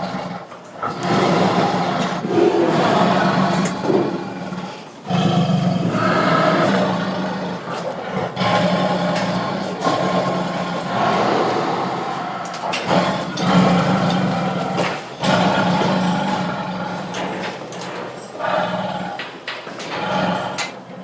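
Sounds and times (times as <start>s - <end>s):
tiger growling and roaring: 0.0s - 21.0s.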